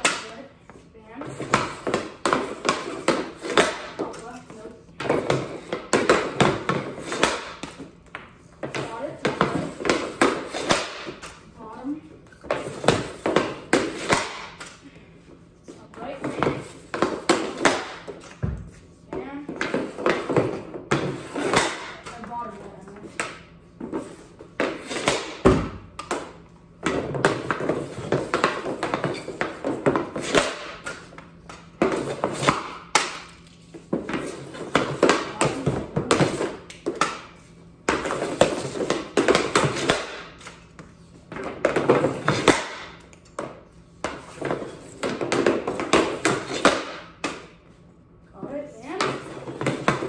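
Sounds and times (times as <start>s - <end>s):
hockey stick clacking puck: 0.0s - 0.3s, 1.2s - 11.4s, 12.4s - 14.8s, 16.2s - 18.4s, 19.5s - 37.3s, 37.9s - 47.5s, 48.9s - 50.0s.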